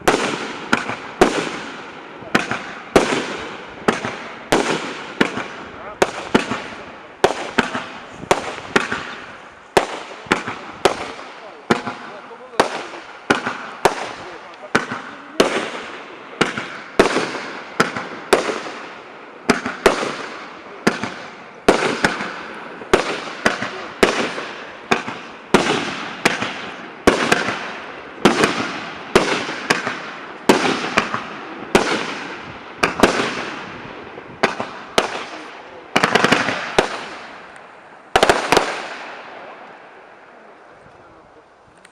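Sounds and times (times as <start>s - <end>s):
fireworks bangs: 0.0s - 41.2s
fireworks crackling and hissing: 0.0s - 41.9s.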